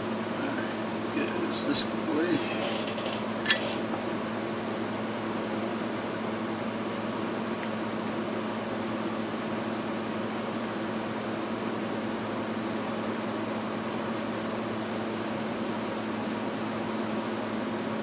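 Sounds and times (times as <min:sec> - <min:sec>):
fan whirring hum: 0:00.0 - 0:18.0.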